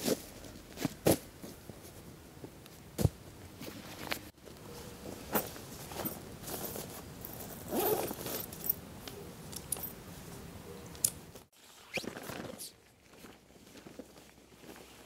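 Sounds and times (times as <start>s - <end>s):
camping gear rustling: 0.0s - 10.5s, 11.4s - 15.0s.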